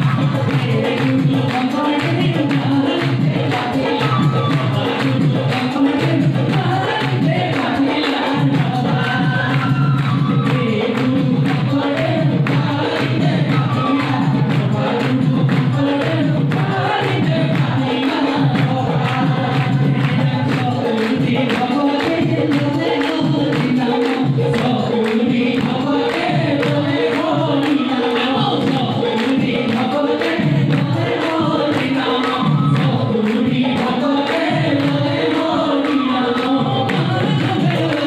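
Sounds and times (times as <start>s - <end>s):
group of voices singing: 0.0s - 38.0s
man singing into a microphone: 0.0s - 38.0s
steady percussive beat: 0.0s - 38.0s.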